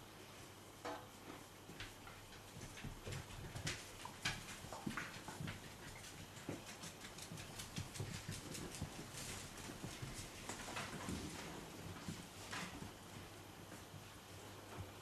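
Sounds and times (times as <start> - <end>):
puppies' light clicks and taps: 1.0 - 15.0.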